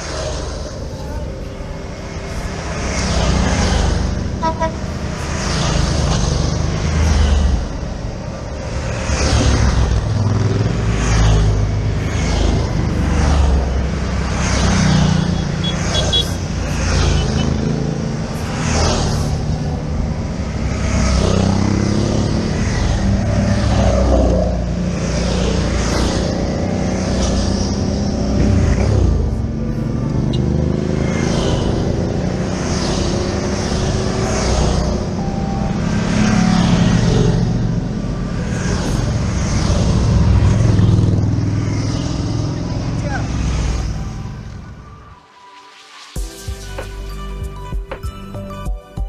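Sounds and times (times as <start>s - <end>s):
motorcycles riding past: 0.0s - 44.8s.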